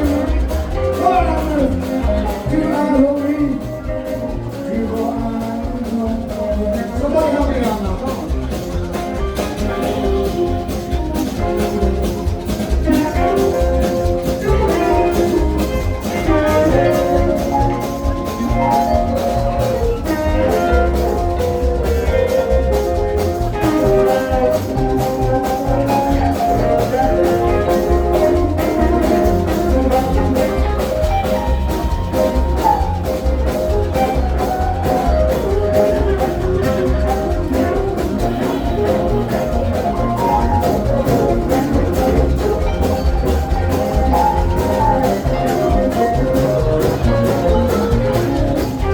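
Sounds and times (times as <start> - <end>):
blues band playing: 0.0 - 48.9
drums: 0.0 - 48.9
melodic lead line: 0.0 - 48.9.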